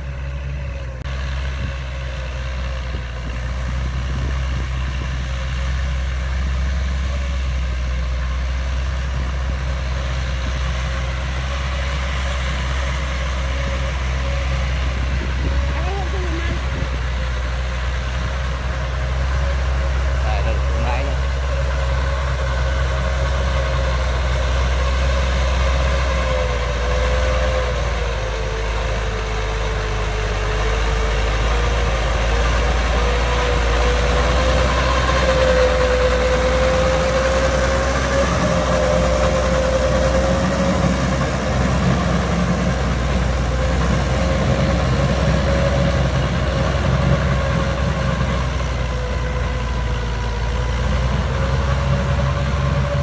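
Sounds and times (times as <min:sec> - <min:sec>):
rotary tiller whine: 0:00.0 - 0:53.0
tractor diesel engine running: 0:00.0 - 0:53.0.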